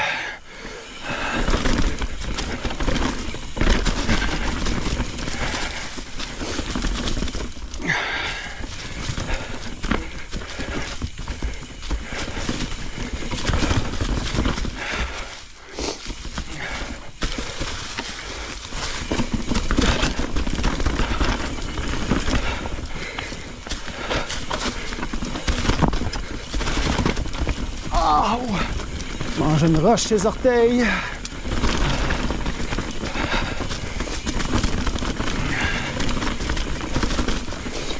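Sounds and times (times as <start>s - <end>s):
bike rattling and knocking: 0.0s - 37.9s
bike tyres rolling over leaves: 0.0s - 37.9s.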